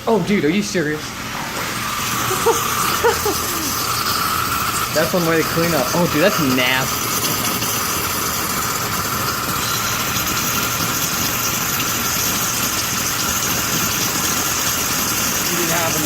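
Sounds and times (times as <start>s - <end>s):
pump running: 0.0s - 16.0s
pressure wand spraying water: 0.8s - 16.0s.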